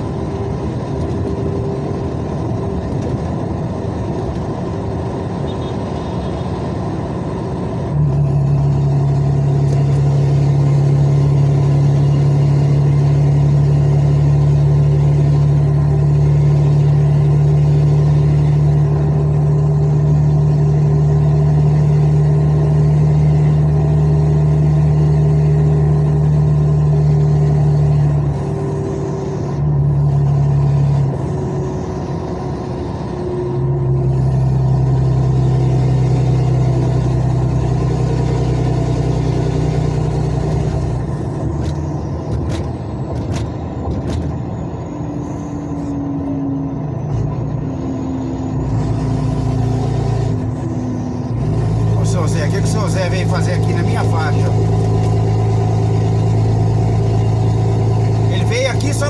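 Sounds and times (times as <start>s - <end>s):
diesel truck engine droning: 0.0s - 59.0s.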